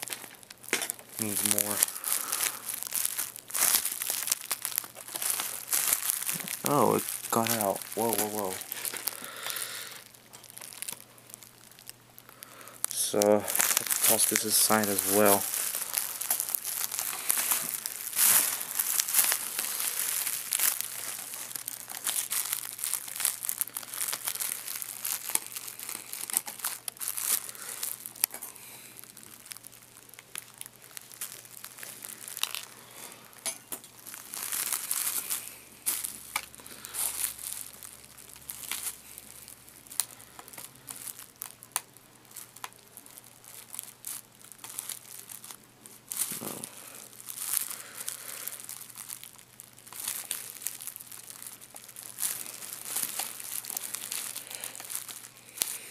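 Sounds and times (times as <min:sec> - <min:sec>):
bubble wrap crinkling: 0:00.0 - 0:55.9.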